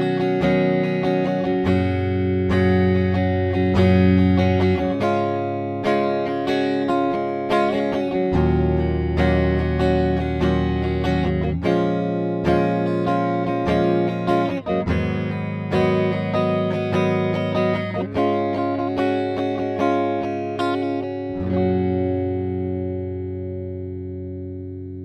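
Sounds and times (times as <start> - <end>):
clean electric guitar: 0.0 - 25.0.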